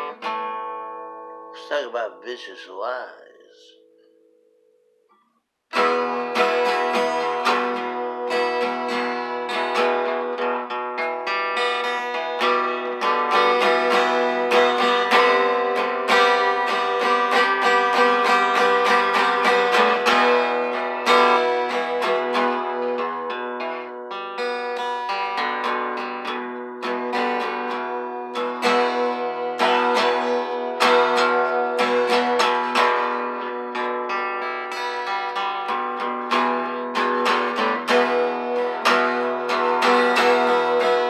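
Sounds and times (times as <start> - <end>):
acoustic guitar strumming chords: 0.0 - 41.0.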